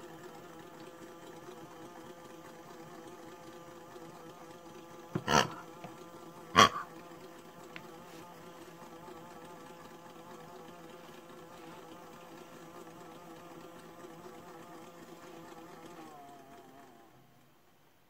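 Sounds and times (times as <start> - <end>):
small electric pump buzzing: 0.0 - 17.6.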